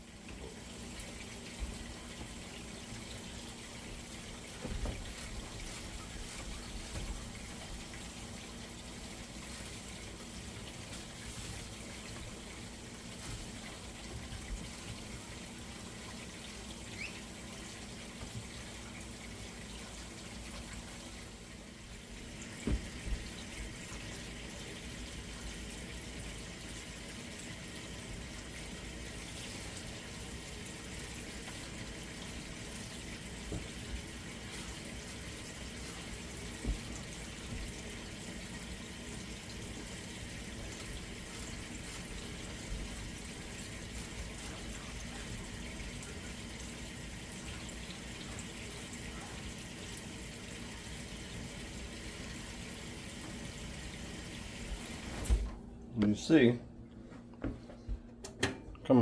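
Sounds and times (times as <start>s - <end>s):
water running from a tap: 0.0s - 55.6s.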